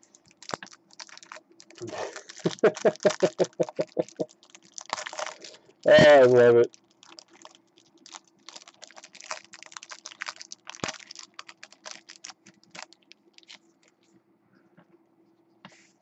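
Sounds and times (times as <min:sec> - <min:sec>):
plastic card sleeve crackling: 0:00.0 - 0:14.1.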